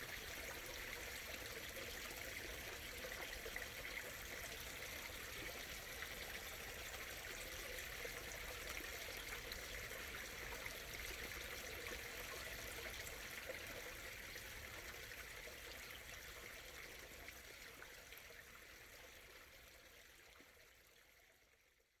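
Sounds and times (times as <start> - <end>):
stream murmuring and trickling: 0.0 - 22.0.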